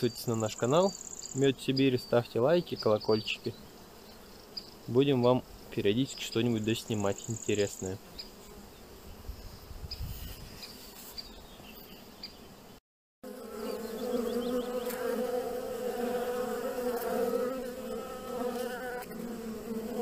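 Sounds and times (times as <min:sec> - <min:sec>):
faint outdoor background: 0:00.0 - 0:20.0
honeybees buzzing: 0:00.0 - 0:20.0.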